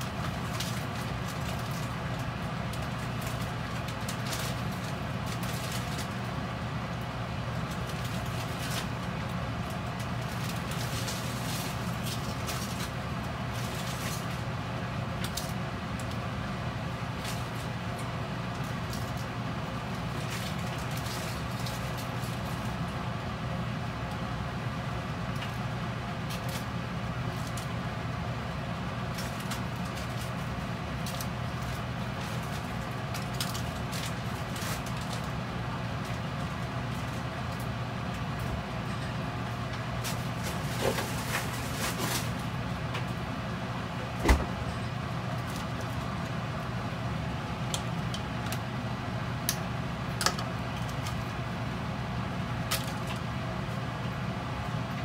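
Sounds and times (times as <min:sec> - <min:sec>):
kitchen hum and hiss: 0:00.0 - 0:55.0.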